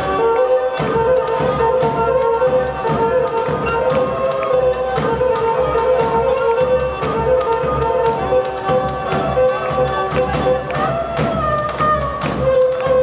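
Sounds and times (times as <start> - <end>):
folk band dance music: 0.0 - 13.0
held melody line: 0.0 - 13.0
large drum steady beat: 0.0 - 13.0.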